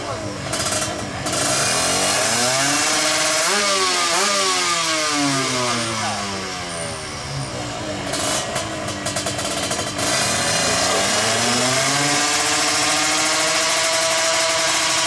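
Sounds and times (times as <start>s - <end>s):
engine crackle: 0.0s - 15.0s
two-stroke engine revving hard: 0.0s - 15.0s.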